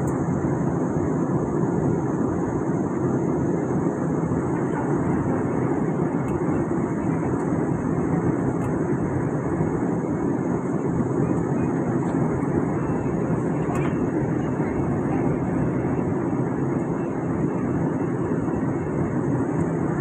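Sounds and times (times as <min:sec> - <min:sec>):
airliner cabin engine rush: 0:00.0 - 0:20.0.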